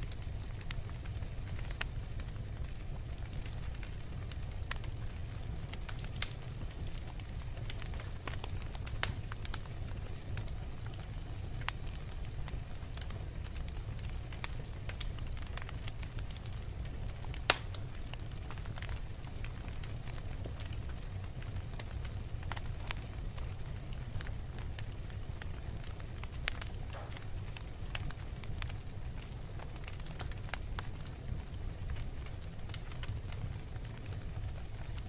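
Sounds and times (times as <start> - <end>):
fire popping: 0.0 - 35.0
wood fire crackling: 0.0 - 35.0.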